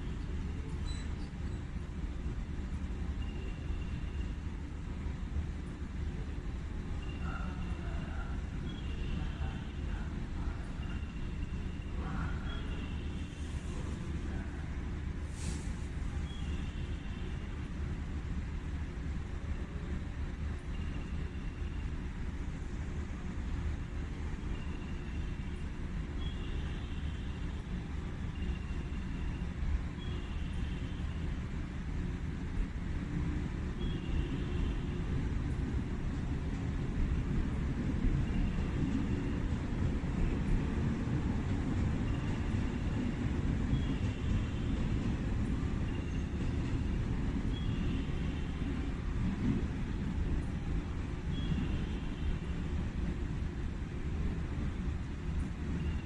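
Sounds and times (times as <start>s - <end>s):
distant traffic: 0.0s - 56.0s
station ambience rumble: 0.0s - 56.0s.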